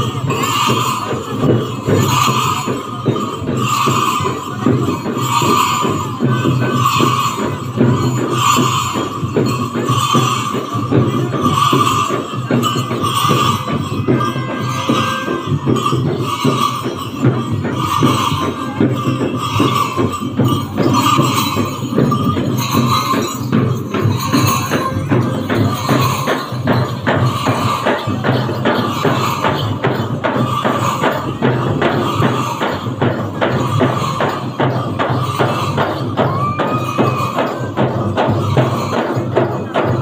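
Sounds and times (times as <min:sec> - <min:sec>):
brass bells jingling: 0:00.0 - 0:40.0
dhol drumming: 0:00.0 - 0:40.0.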